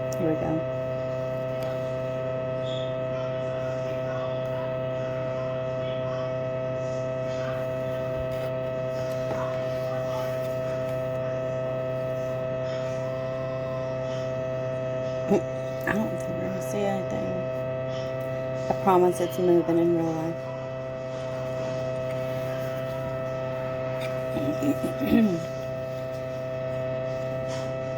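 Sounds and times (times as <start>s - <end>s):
electrical hum: 0.0s - 27.9s.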